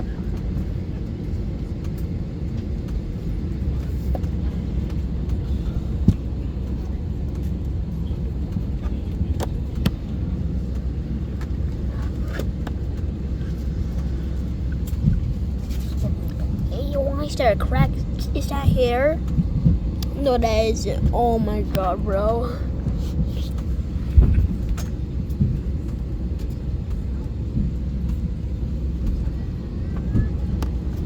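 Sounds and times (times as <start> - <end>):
low aircraft cabin rumble: 0.0 - 31.0.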